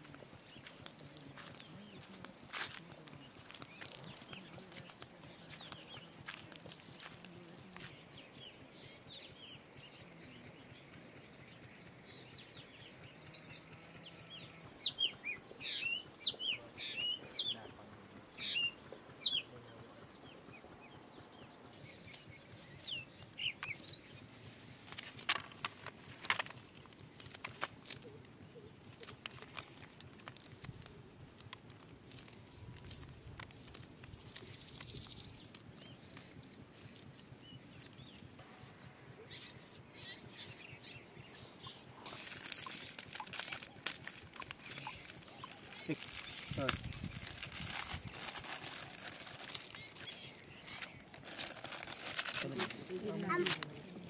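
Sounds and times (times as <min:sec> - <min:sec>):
birds chirping: 0:00.0 - 0:54.0
faint outdoor background: 0:00.0 - 0:54.0.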